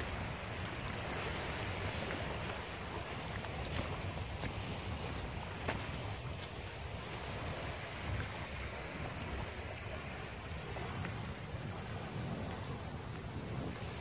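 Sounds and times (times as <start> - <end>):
rushing water: 0.0 - 14.0
wind buffeting microphone: 0.0 - 14.0.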